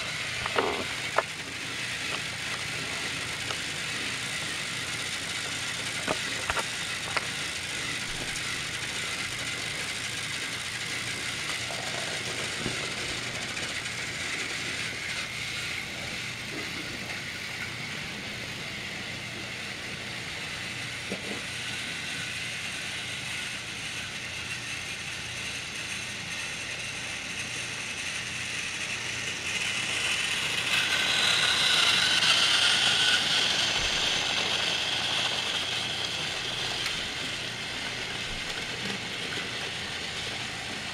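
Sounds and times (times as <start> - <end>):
toy train motors whirring: 0.0 - 40.9.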